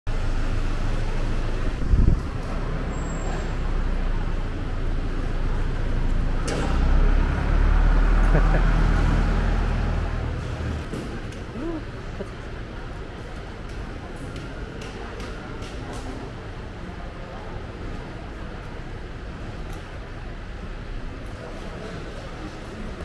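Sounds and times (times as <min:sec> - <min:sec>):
low rumble of vehicle engines: 0:00.1 - 0:23.0.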